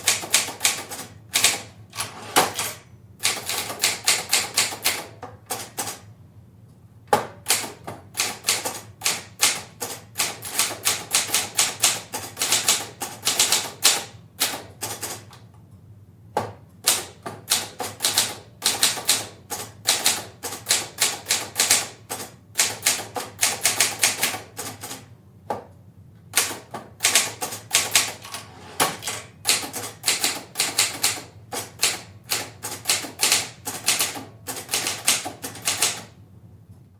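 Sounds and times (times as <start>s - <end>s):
distant manual typewriter typing: 0.0s - 6.1s, 7.2s - 15.4s, 16.8s - 25.1s, 26.3s - 36.2s.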